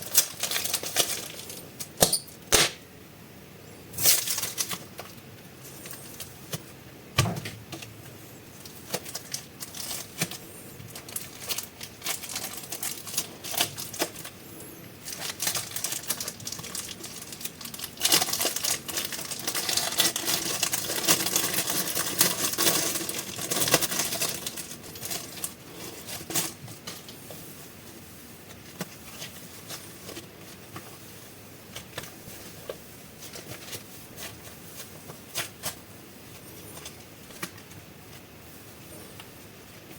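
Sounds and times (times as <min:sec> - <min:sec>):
plastic packaging crinkling: 0:00.0 - 0:02.2, 0:04.0 - 0:06.7, 0:08.6 - 0:14.4, 0:15.0 - 0:27.3, 0:28.0 - 0:38.6.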